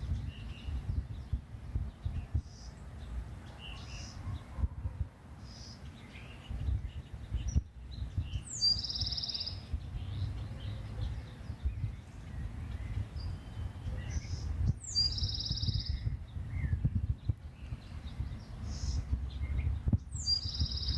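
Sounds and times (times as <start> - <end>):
wild birds chirping: 0.0 - 20.9.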